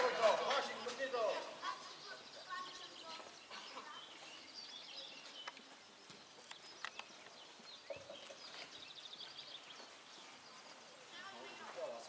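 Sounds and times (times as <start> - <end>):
distant high calls and chirps: 0.0 - 12.0.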